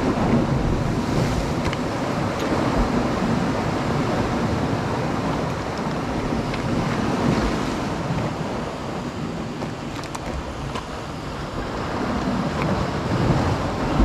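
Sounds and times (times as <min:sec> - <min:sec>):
sea surf washing against rocks: 0:00.0 - 0:14.0
wind rumble on microphone: 0:00.0 - 0:14.0.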